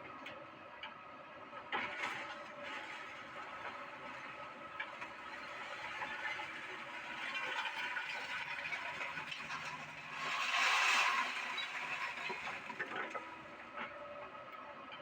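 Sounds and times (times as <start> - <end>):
excavator running: 1.8 - 14.2.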